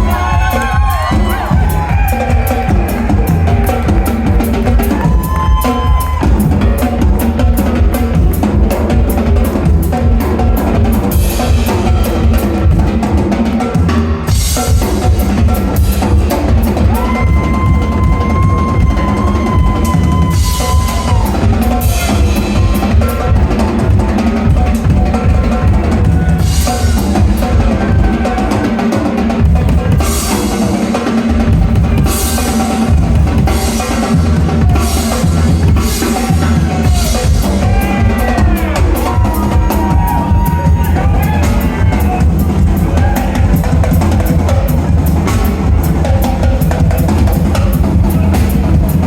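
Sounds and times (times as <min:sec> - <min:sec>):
drum kit fast rhythm: 0:00.0 - 0:49.0.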